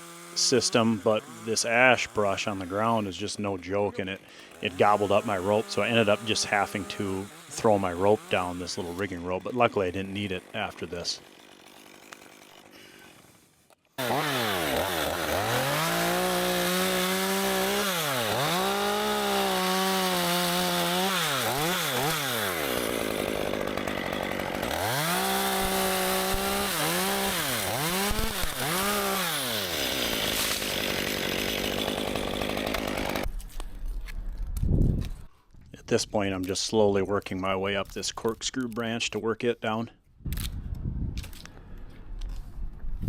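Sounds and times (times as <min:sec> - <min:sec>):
chainsaw cutting wood: 0:00.0 - 0:35.3.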